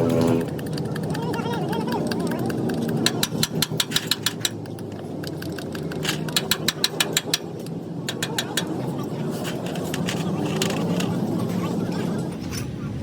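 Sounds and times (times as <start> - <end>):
rapid tapping on metal: 0.0 - 11.2
low mechanical hum: 0.0 - 13.0.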